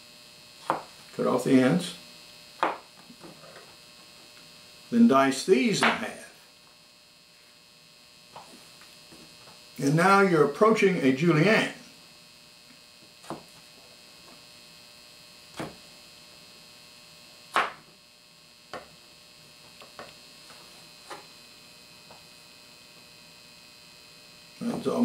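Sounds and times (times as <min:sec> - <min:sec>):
steady electrical hum: 0:00.0 - 0:25.0.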